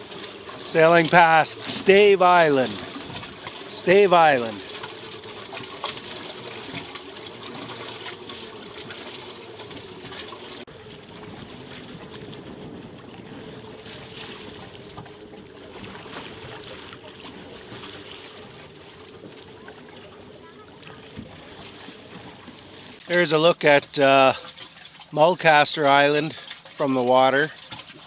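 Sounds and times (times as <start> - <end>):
steady wavering hum: 0.0 - 27.3
water rushing along boat hull: 0.0 - 28.0.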